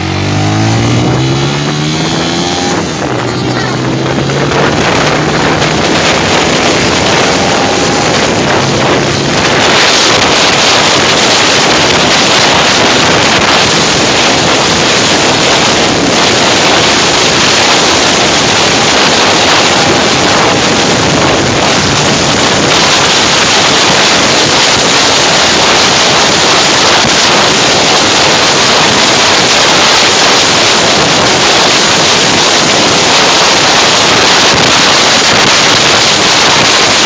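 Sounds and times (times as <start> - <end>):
motorcycle engine accelerating: 0.0 - 37.0
wind rush on microphone: 0.0 - 37.0.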